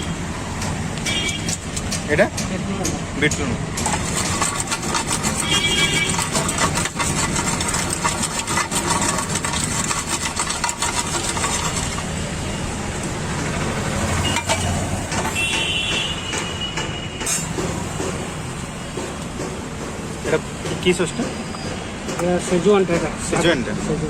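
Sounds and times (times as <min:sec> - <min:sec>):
vehicle engines passing: 0:00.0 - 0:24.0.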